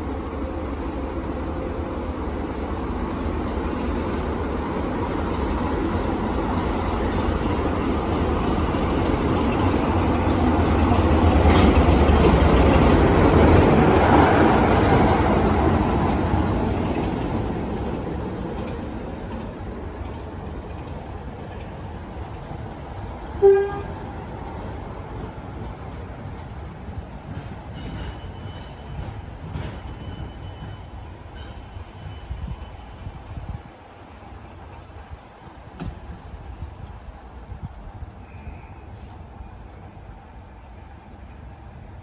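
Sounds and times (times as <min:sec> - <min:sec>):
train passing rumble: 0:00.0 - 0:42.0.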